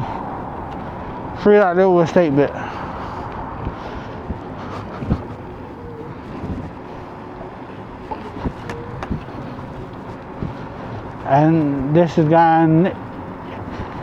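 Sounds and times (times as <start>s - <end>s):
wind and tyre noise: 0.0s - 14.0s.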